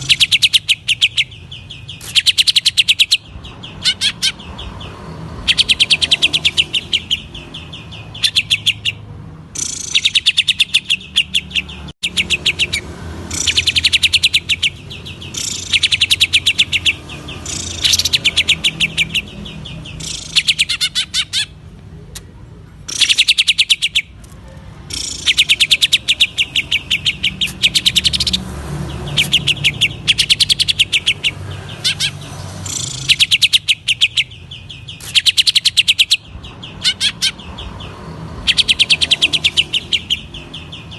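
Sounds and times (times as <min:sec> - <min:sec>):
bird singing in rattling bursts: 0:00.0 - 0:21.7, 0:22.9 - 0:40.9.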